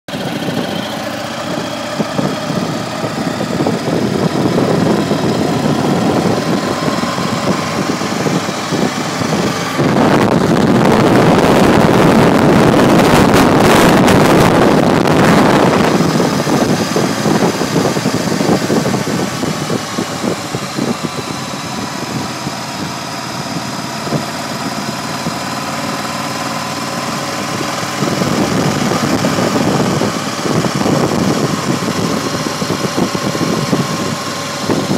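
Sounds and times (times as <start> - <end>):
motorcycle engine running: 0.1 - 34.9
wind buffeting microphone: 0.1 - 34.9
wind rushing past: 1.4 - 34.9.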